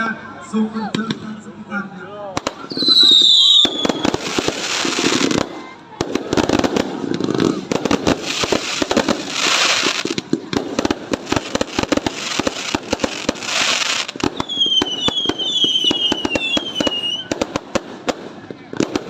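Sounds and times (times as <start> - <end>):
fireworks bangs and crackles: 0.8 - 19.0
hissing firework shells: 2.4 - 19.0.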